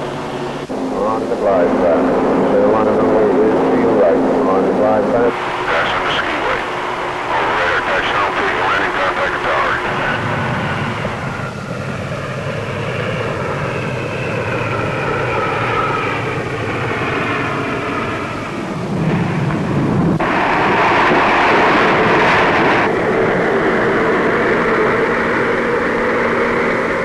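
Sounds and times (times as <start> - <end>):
loud rushing roar: 0.0 - 27.0
turboprop engines: 0.0 - 27.0.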